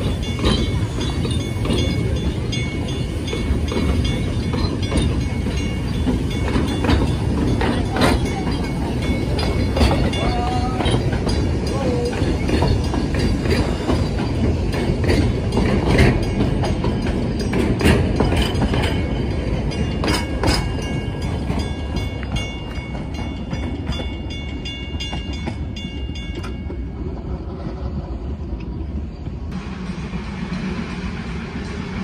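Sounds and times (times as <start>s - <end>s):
train wheels clacking over rail joints: 0.0s - 32.0s.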